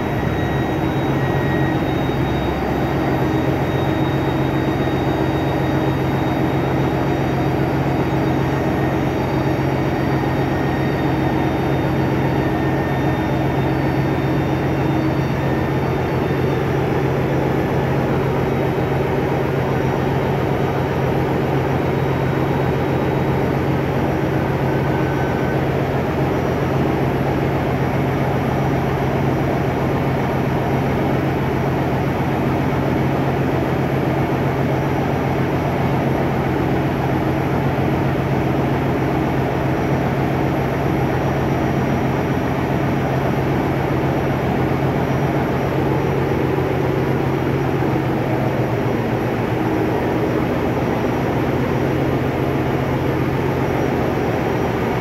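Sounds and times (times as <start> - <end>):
diesel generator engines droning: 0.0 - 55.0.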